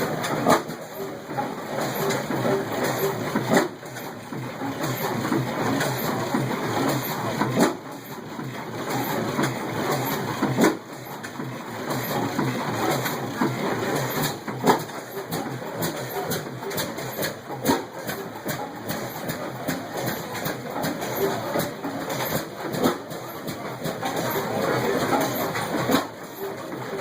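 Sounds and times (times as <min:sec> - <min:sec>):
old stationary engines running: 0:00.0 - 0:27.0.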